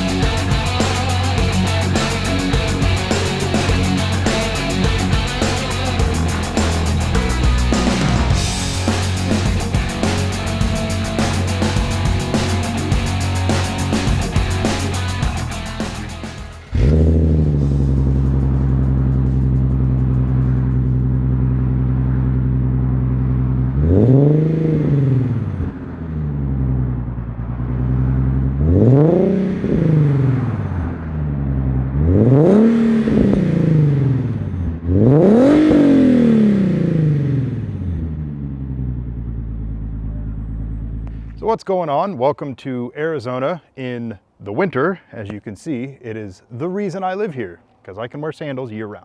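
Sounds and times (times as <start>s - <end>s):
engine revving: 0.0s - 41.3s
car engine starting and idling: 0.0s - 41.4s.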